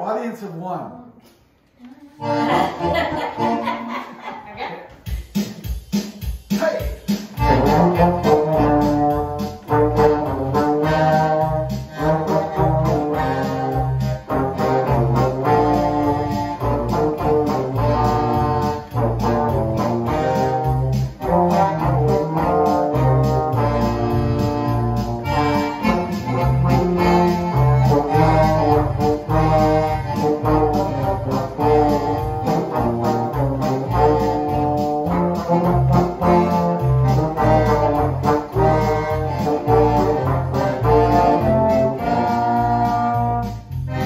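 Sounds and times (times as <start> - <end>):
polka band playing: 2.2 - 44.0.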